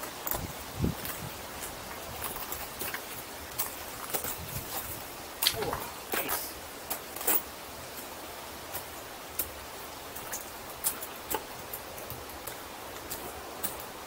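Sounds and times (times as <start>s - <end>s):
footsteps on rocky trail: 0.0s - 14.0s
steady hiss: 0.0s - 14.0s.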